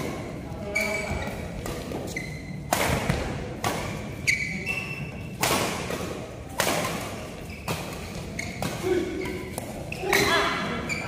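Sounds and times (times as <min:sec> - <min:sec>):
rackets hitting shuttlecock: 0:01.3 - 0:10.4.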